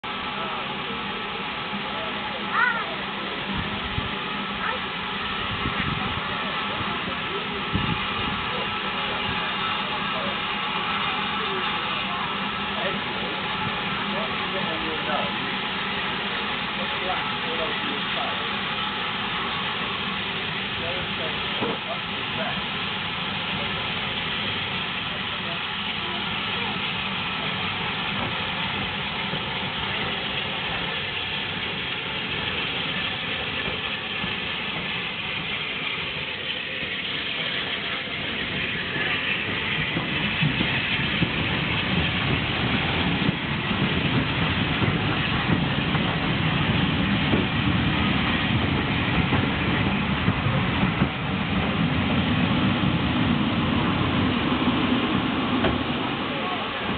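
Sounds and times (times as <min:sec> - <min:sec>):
low rumble and wheel noise: 0:00.0 - 0:56.9
steam train running: 0:00.0 - 0:56.9.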